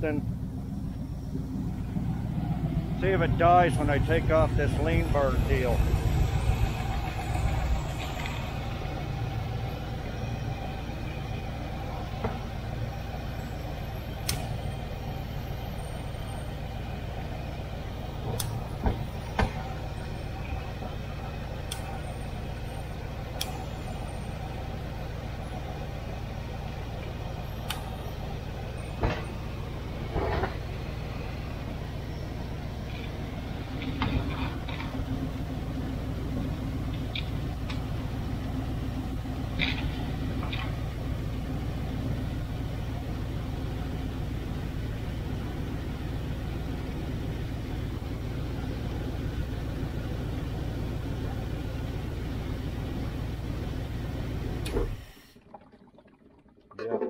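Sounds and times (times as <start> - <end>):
car engine idling: 0.0 - 55.4.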